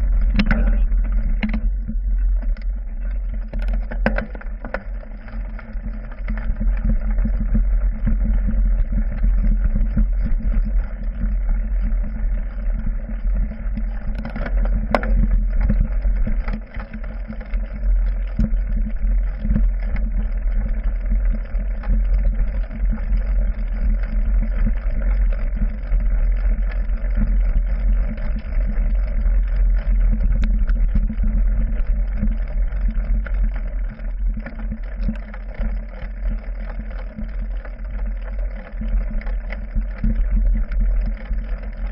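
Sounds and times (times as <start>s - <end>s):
bike clicks and rattles: 0.0s - 41.9s
bike tyres rumbling on dirt trail: 0.0s - 41.9s.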